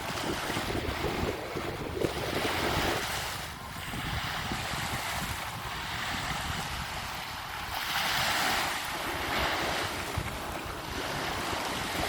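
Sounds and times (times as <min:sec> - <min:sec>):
sea waves washing onto beach: 0:00.0 - 0:12.0
wind rumbling on microphone: 0:00.0 - 0:12.0.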